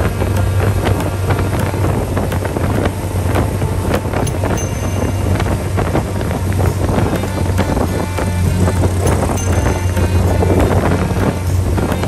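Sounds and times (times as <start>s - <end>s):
motorboat engine running: 0.0s - 12.0s
water rushing past hull: 0.0s - 12.0s
wind buffeting microphone: 0.0s - 12.0s.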